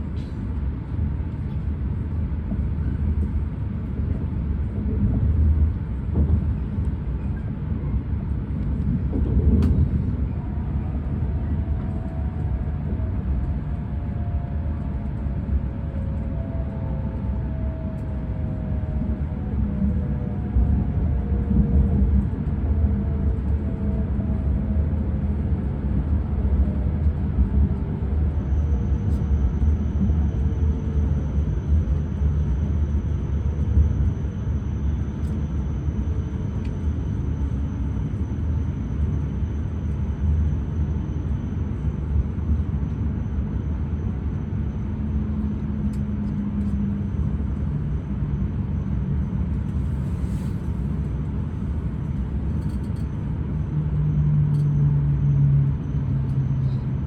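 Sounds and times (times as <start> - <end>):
wheels rumbling on track: 0.0 - 57.0.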